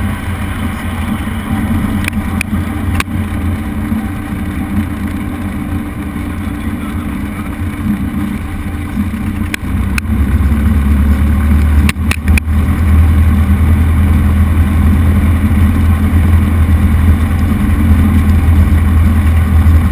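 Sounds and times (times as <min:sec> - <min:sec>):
propeller plane engine droning: 0:00.0 - 0:19.9.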